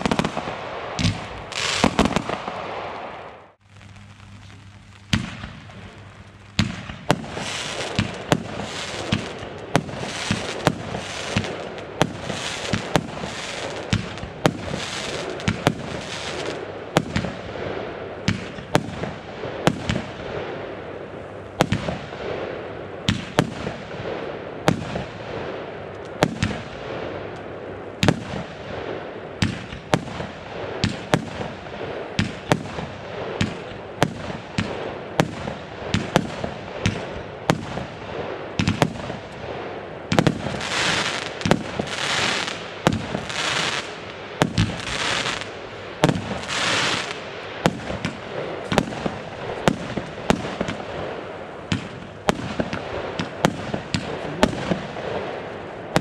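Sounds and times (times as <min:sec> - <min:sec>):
fireworks hissing and crackling: 0:00.0 - 0:20.6, 0:21.2 - 0:56.0
firework bangs: 0:00.0 - 0:20.7, 0:26.2 - 0:27.2, 0:28.0 - 0:56.0.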